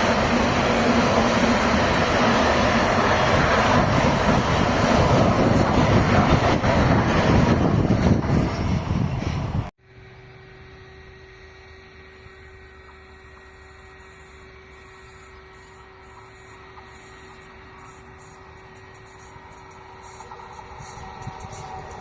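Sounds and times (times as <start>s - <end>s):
passing train rumble: 0.0s - 11.4s, 14.6s - 22.0s.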